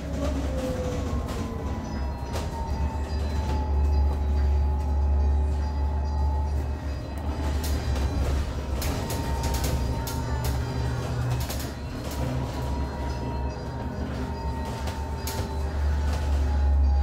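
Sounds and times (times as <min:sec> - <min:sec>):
bus road rumble: 0:00.0 - 0:17.0.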